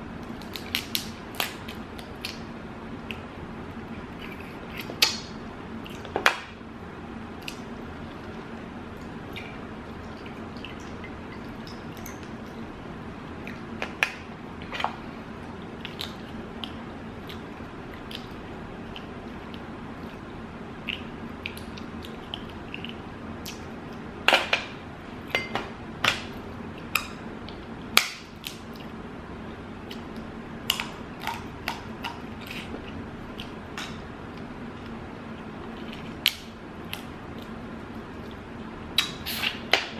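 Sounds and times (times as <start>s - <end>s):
steady low hum: 0.0s - 39.9s
chewing and eating sounds: 0.2s - 6.5s, 7.3s - 24.4s, 26.2s - 29.0s, 29.8s - 39.9s.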